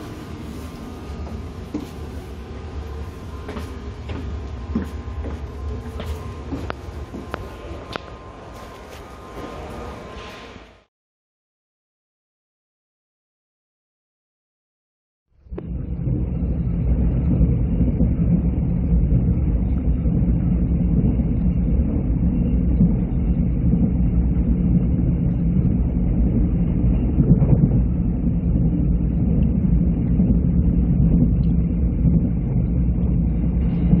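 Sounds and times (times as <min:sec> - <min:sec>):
train rumbling on track: 0:00.0 - 0:10.9, 0:15.4 - 0:34.0.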